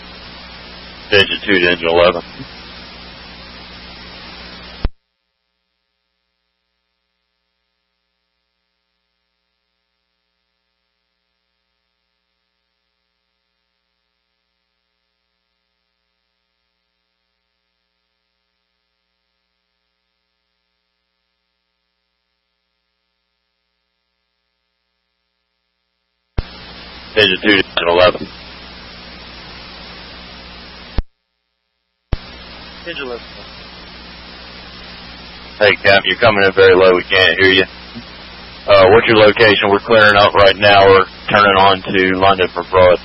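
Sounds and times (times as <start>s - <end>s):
faint hum: 0.0s - 43.0s
radio scanner static hiss: 0.0s - 43.0s.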